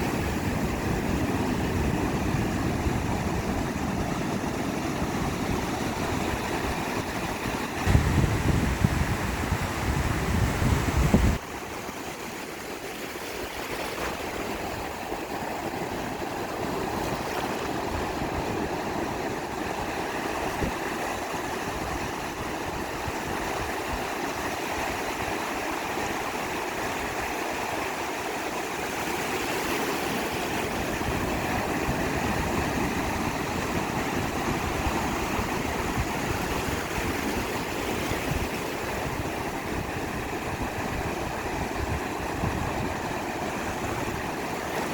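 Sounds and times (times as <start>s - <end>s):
ocean surf washing on shore: 0.0s - 44.9s.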